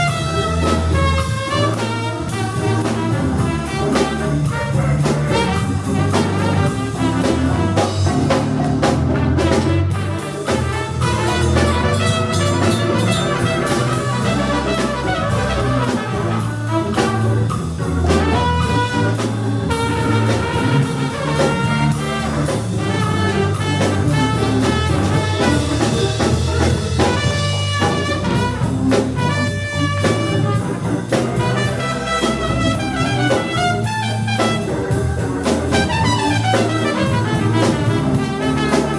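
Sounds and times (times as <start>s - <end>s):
live jazz band playing: 0.0s - 38.9s.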